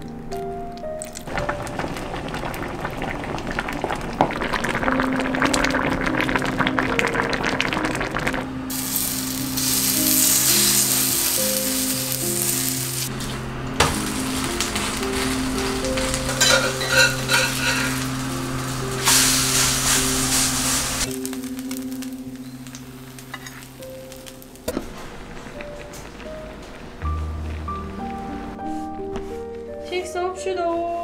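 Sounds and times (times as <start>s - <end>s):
stew crackling in pot: 0.0s - 28.2s
soft background music: 0.0s - 31.0s
stew boiling hard: 1.0s - 28.9s
pancake sizzling in frying pan: 1.2s - 7.0s, 8.7s - 28.0s.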